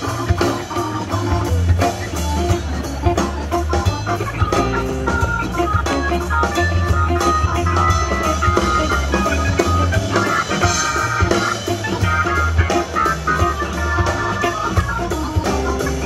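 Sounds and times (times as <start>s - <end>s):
drum kit: 0.0s - 16.0s
electric guitar: 0.0s - 16.0s
electric keyboard: 0.0s - 16.0s
heavy bass line: 0.0s - 16.0s.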